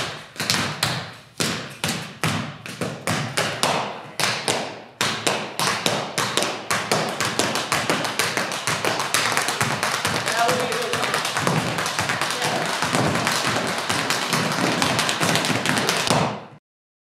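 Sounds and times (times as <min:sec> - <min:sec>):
tap shoes striking floor: 0:00.0 - 0:16.6.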